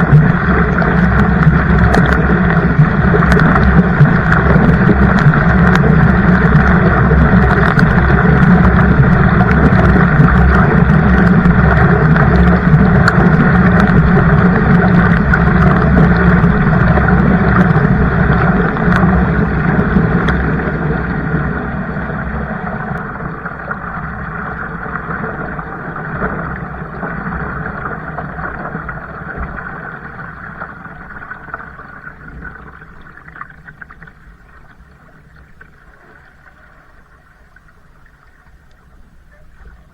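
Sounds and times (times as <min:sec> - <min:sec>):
kayak rushing on water: 0:00.0 - 0:39.9.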